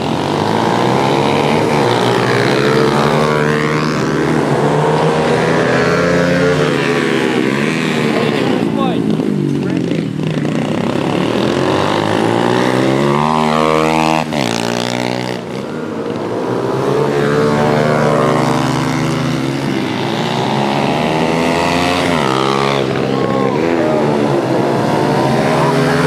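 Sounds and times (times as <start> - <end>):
pit bike engines racing: 0.0 - 26.0.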